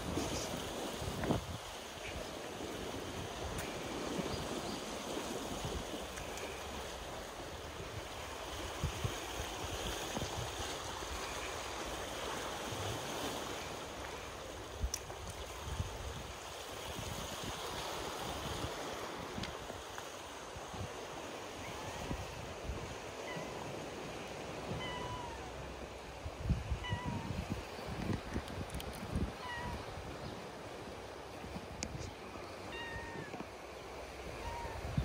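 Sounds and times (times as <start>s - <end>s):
sea water lapping at wall: 0.0s - 35.0s
wind rumbling on microphone: 0.0s - 35.0s.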